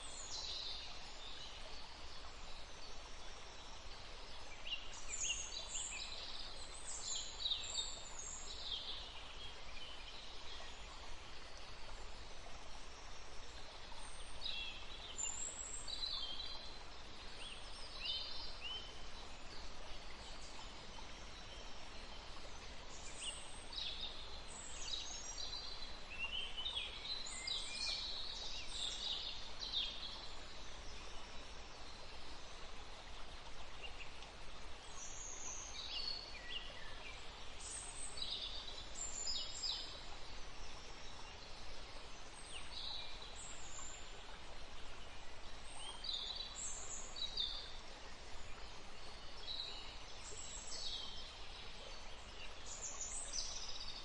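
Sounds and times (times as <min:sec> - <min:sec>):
songbirds chirping: 0:00.0 - 0:54.0
stream running: 0:00.0 - 0:54.0.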